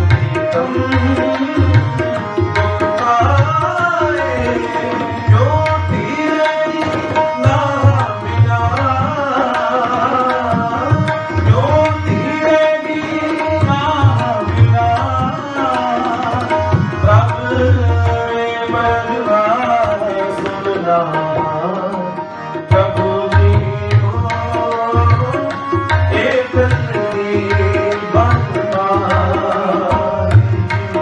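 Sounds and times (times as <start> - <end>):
tabla strokes: 0.0 - 31.0.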